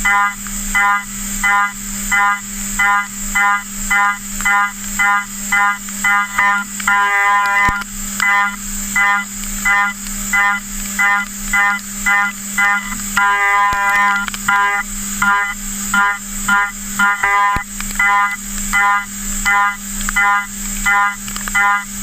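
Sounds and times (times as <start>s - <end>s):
machine hum: 0.0s - 22.0s
milling cutter screeching: 2.9s - 21.8s.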